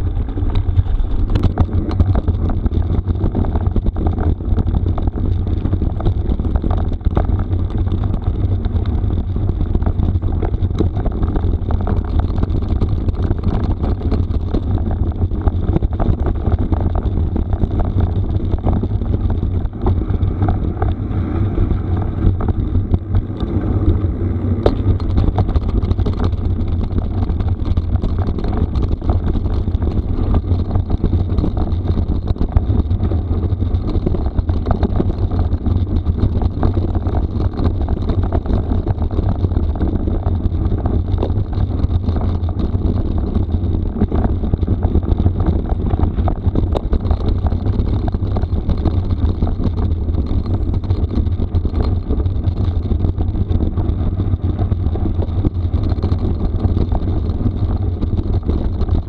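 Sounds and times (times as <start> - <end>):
small clicks and knocks: 0.0 - 21.0, 24.6 - 59.0
bike tyres on gravel: 0.0 - 59.0
wind buffeting the microphone: 0.0 - 59.0.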